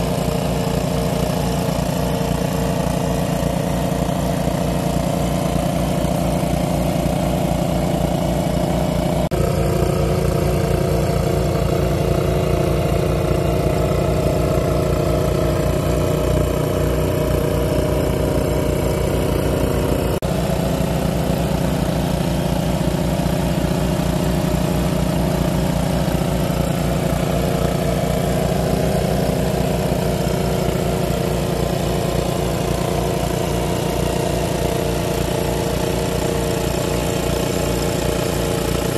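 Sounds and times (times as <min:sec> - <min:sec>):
small engine driving water pump: 0:00.0 - 0:38.9.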